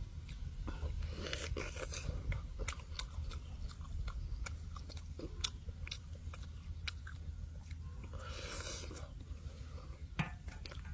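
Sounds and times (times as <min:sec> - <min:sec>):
crunchy chewing: 0:00.0 - 0:10.9.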